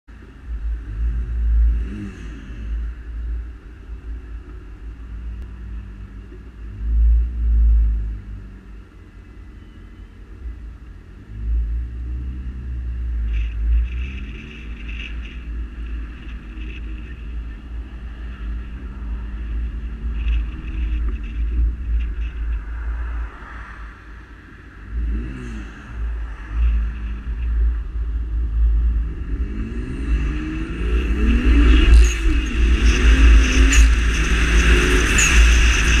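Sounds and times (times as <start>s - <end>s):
car engine accelerating: 0.2s - 36.0s.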